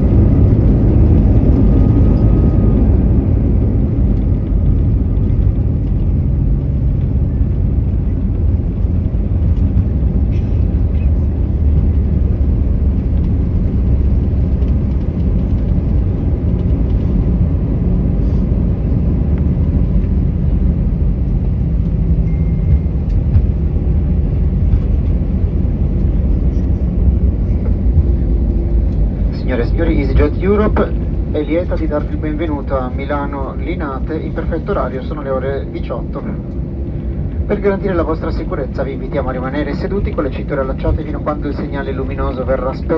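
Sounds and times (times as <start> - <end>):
airliner cabin rumble while taxiing: 0.0 - 42.9.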